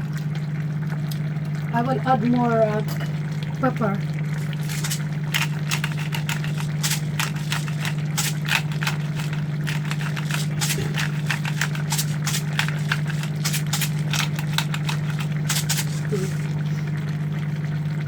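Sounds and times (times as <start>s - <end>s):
pot boiling on stove: 0.0s - 18.0s
steady low hum: 0.0s - 18.0s.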